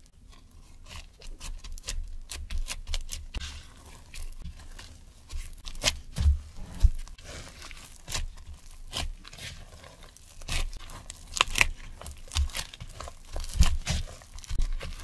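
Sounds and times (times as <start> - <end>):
dough squelching and tearing: 0.0 - 15.0.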